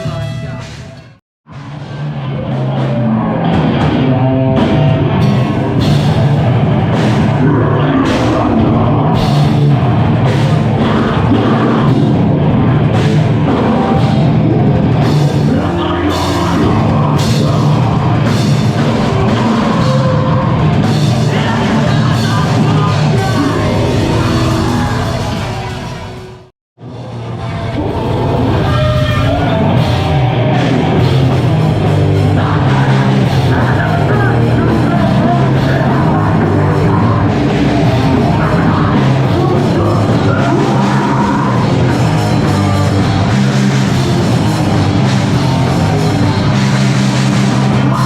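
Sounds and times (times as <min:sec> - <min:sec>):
live heavy rock band: 0:00.0 - 0:48.0
pounding drum kit: 0:00.0 - 0:48.0.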